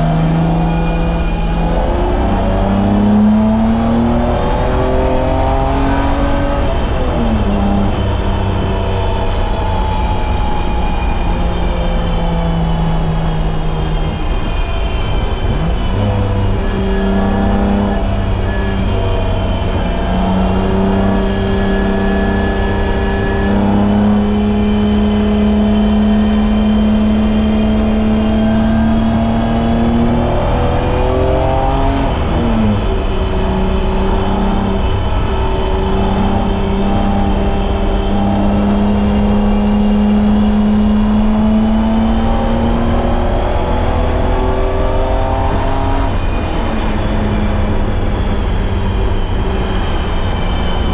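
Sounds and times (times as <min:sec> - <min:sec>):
car engine at full throttle: 0:00.0 - 0:50.9.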